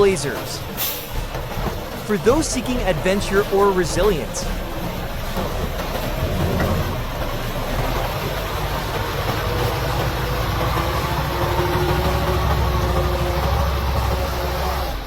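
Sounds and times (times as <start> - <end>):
engine running low drone: 0.0 - 15.0.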